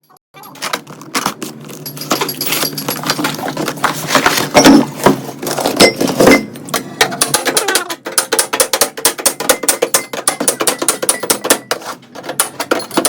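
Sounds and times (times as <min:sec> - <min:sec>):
metal parts clattering: 0:00.4 - 0:13.0.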